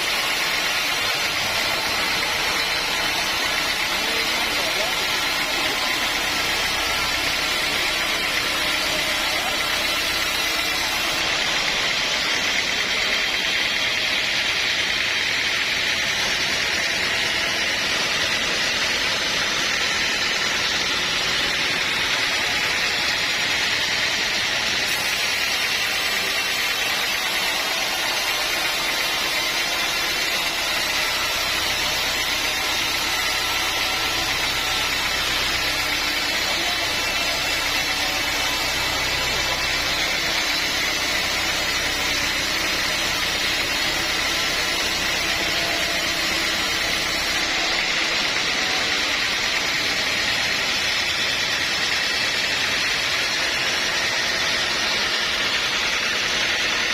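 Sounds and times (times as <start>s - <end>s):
low machine hum: 0.0s - 50.9s
sawmill machinery hissing: 0.0s - 56.9s.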